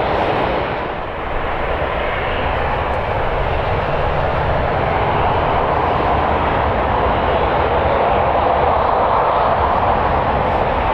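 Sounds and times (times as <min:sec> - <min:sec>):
jet airliner engines running: 0:00.0 - 0:10.9
wind buffeting microphone: 0:00.0 - 0:10.9.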